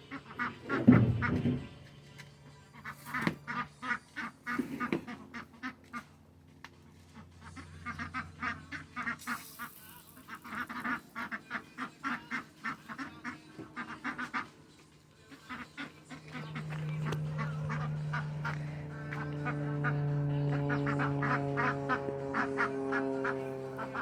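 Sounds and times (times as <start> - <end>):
ducks quacking: 0.0 - 24.0
steady low hum: 0.0 - 24.0.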